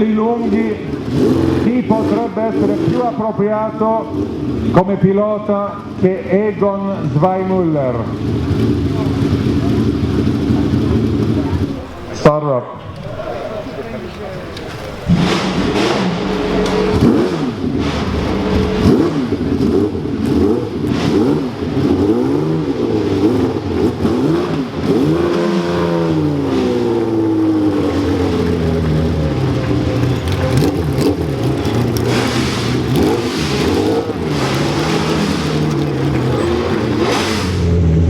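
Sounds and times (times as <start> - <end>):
racing car engine revving: 0.4 - 4.8, 8.0 - 38.0.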